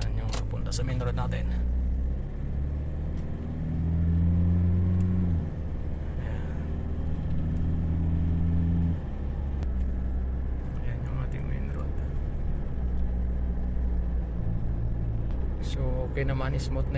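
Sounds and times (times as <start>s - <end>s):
diesel engine droning while driving: 0.0s - 16.9s.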